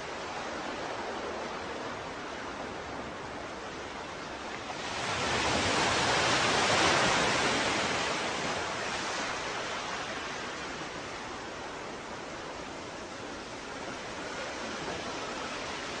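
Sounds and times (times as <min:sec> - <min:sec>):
ocean waves washing: 0:00.0 - 0:16.0.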